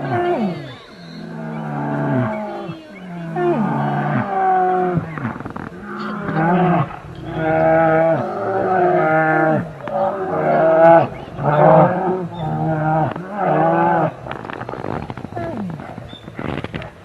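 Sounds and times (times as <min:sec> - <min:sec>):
bear calling: 0:00.0 - 0:16.9.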